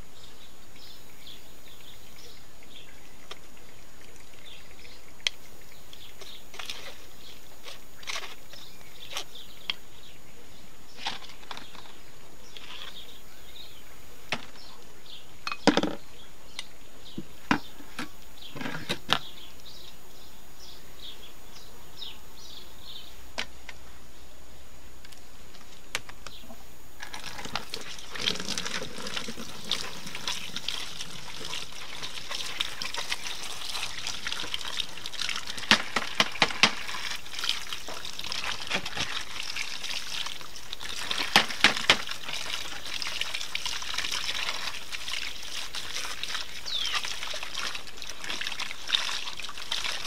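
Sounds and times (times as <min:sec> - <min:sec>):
birds chirping: 0:00.0 - 0:50.0
steady hiss: 0:00.0 - 0:50.0.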